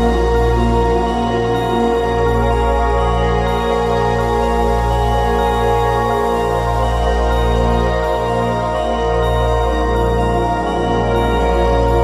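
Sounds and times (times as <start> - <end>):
slow music with long-held tones: 0.0 - 12.0.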